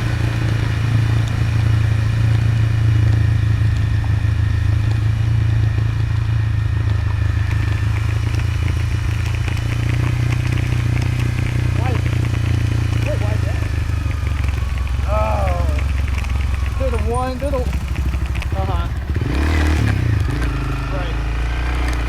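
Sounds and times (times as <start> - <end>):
motorcycle engine running: 0.0 - 22.0
rattling and scraping on dirt road: 0.0 - 22.0.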